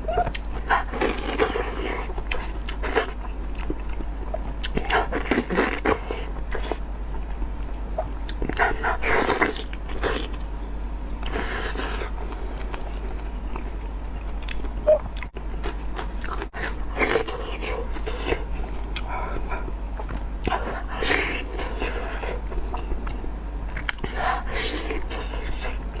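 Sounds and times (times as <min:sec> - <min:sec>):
person chewing meat: 0:00.1 - 0:26.0.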